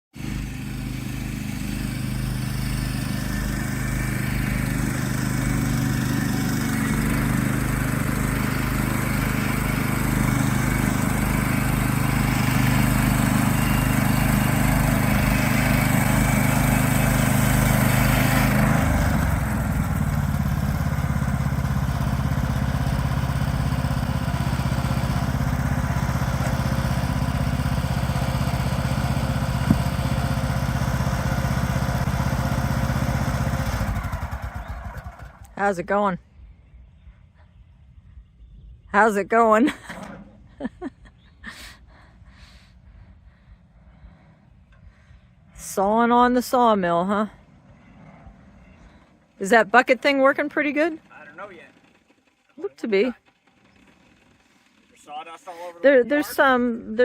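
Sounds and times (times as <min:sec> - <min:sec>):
sawmill gas engine running: 0:00.1 - 0:35.7, 0:39.8 - 0:45.4, 0:46.9 - 0:57.0.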